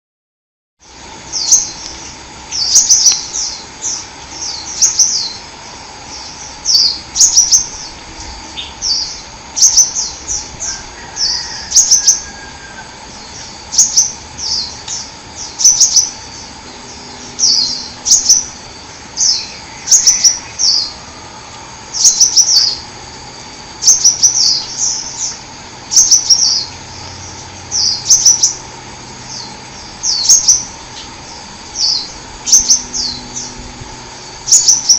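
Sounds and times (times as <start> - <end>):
faint hum: 0.8 - 34.9
bird chirping: 1.3 - 22.9, 23.8 - 28.6, 29.2 - 34.9.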